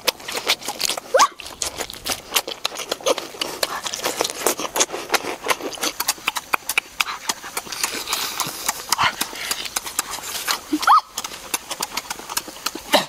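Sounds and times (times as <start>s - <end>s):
person chewing with lip-smacks: 0.0s - 13.0s.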